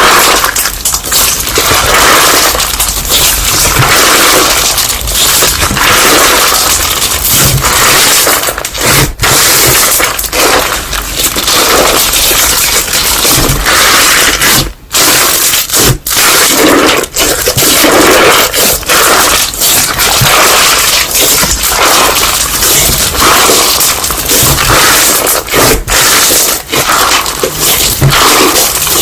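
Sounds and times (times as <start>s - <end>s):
slime crackling and squishing: 0.0s - 29.0s.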